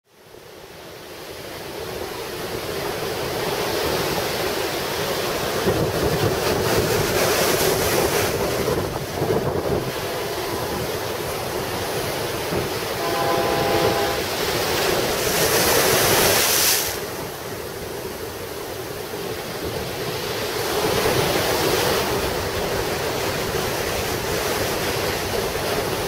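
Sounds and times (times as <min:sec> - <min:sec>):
ocean surf breaking on beach: 0:00.2 - 0:26.0
wind buffeting microphone: 0:02.7 - 0:26.0.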